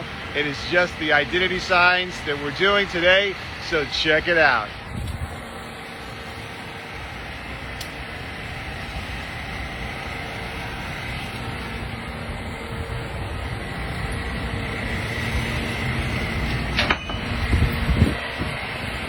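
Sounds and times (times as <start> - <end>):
faint high whine: 0.0 - 19.0
street traffic rumble: 0.0 - 19.0.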